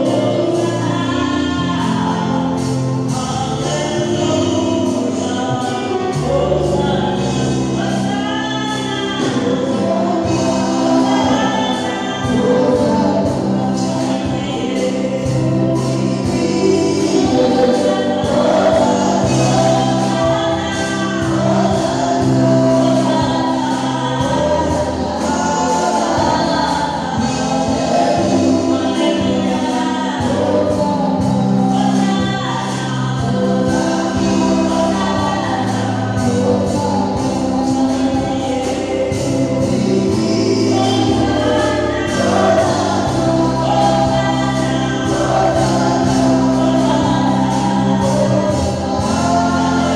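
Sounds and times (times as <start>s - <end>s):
gospel choir singing: 0.0s - 49.9s
held bass notes: 0.0s - 49.9s
instrumental accompaniment: 0.0s - 49.9s.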